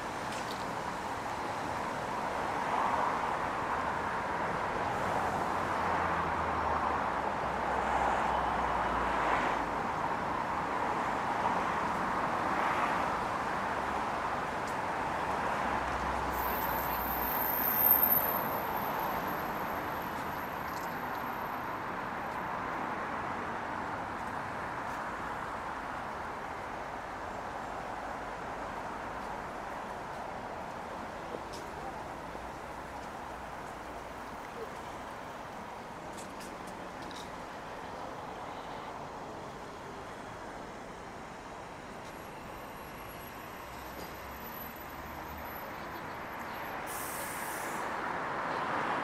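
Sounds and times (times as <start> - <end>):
passing cars: 0.0 - 49.0.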